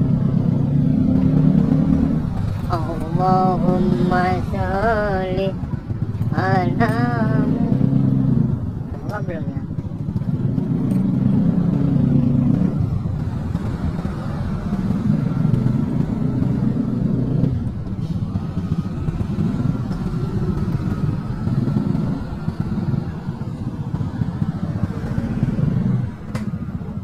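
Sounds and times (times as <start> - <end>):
motorcycles passing: 0.0 - 27.0
scooter engine revving: 0.0 - 27.0.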